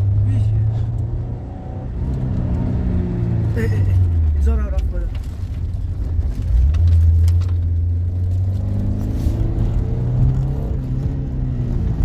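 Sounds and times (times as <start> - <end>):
car engine accelerating: 0.0 - 12.0
road rumble inside car: 0.0 - 12.0.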